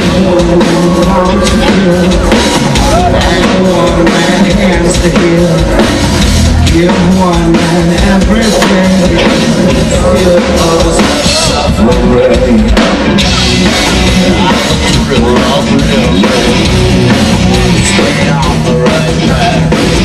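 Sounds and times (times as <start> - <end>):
man singing into microphone: 0.0 - 5.8, 6.6 - 12.9, 14.2 - 20.0
live rock band playing: 0.0 - 20.0.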